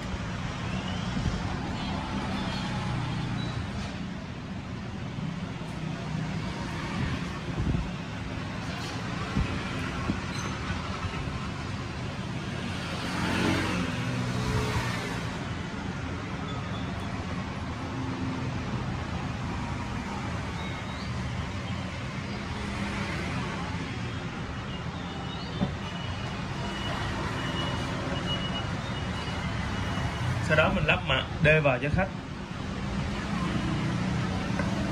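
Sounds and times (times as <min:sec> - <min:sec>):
road traffic noise: 0:00.0 - 0:34.9.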